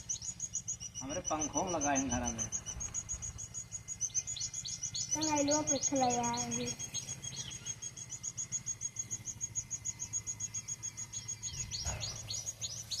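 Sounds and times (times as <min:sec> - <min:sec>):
faint low hum: 0:00.0 - 0:13.0
small birds chirping: 0:00.0 - 0:13.0.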